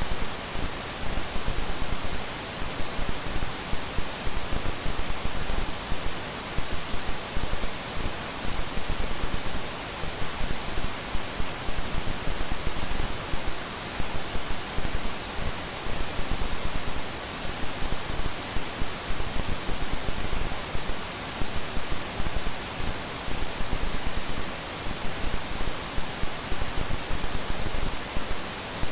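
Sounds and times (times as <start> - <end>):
static hiss: 0.0 - 28.9.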